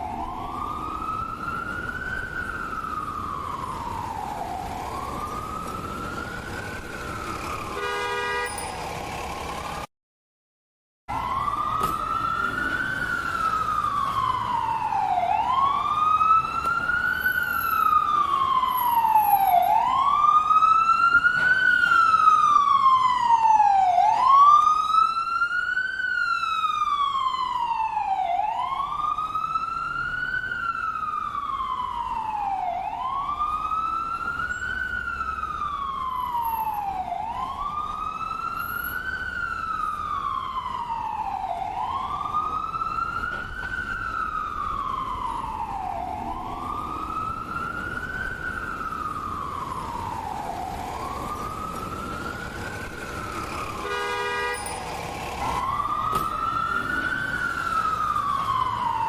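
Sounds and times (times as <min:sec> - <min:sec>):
ambulance siren wailing: 0:00.0 - 0:09.9, 0:11.1 - 0:59.0.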